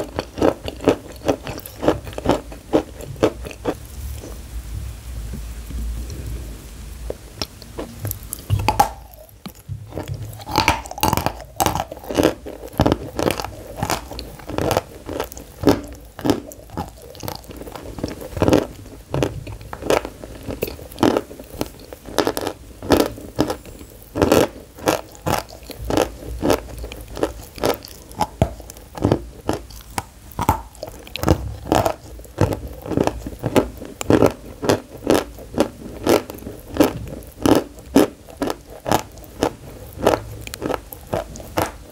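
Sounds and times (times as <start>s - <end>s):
chalk being bitten and chewed: 0.0s - 3.8s, 7.4s - 41.8s.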